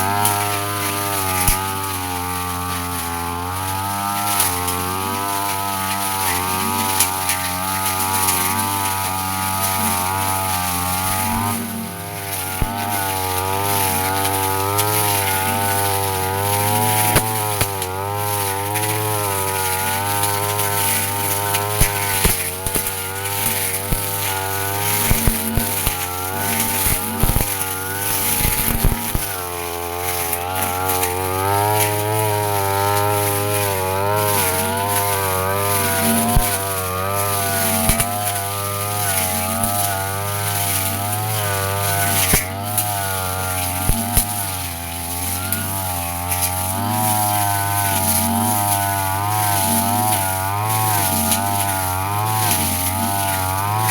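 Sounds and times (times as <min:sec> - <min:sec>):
blade clicking on stems: 0:00.0 - 0:53.9
brush cutter engine running: 0:00.0 - 0:53.9.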